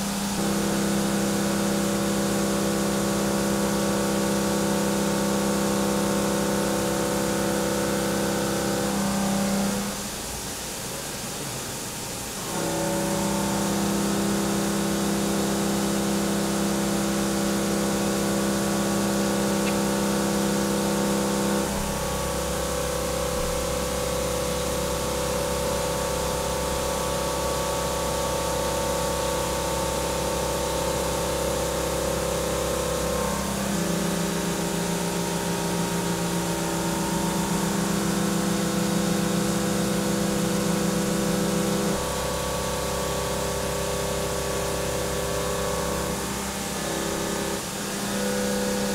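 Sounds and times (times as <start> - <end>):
machine cutting hum: 0.0 - 48.9.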